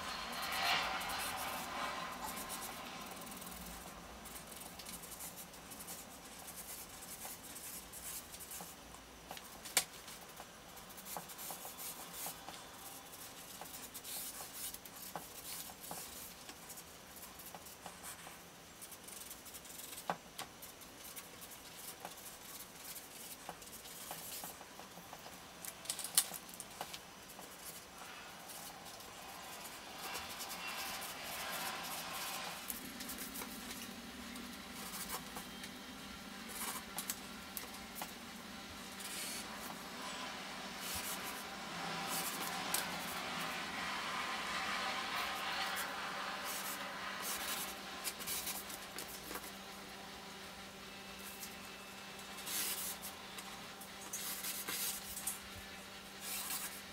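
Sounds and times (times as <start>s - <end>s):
pencil strokes scratching on paper: 0.0s - 49.8s, 52.3s - 53.2s, 54.1s - 55.4s.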